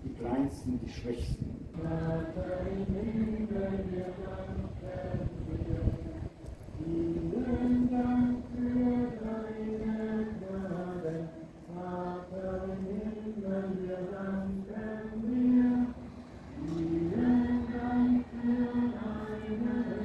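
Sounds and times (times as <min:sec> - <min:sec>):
voices singing a hymn: 0:01.7 - 0:20.0.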